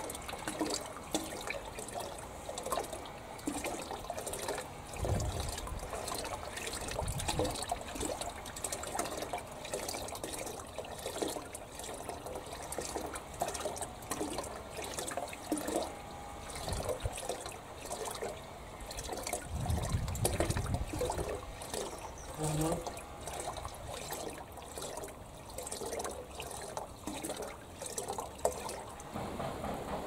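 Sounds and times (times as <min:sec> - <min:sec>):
water plops: 0:00.0 - 0:29.0
water trickling in metal tank: 0:00.0 - 0:29.2.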